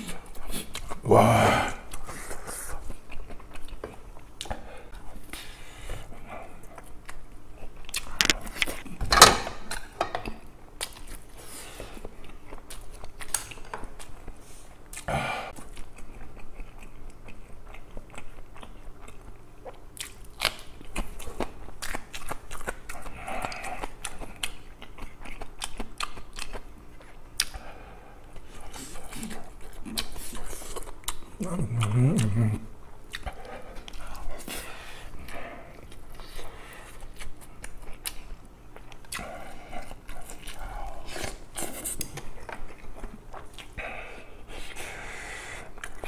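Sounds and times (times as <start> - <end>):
biting and chewing food: 1.9 - 32.4, 33.0 - 43.9.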